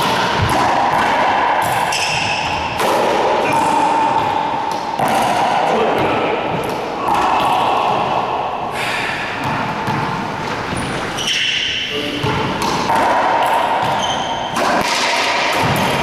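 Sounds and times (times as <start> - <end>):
ball cracking off racquets and walls: 0.0 - 8.2, 9.4 - 16.0.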